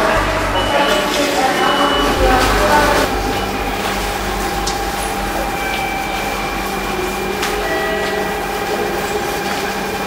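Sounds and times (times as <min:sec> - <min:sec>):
platform noise: 0:00.0 - 0:10.0
steady high tones: 0:00.0 - 0:10.0
train equipment humming: 0:00.0 - 0:10.0.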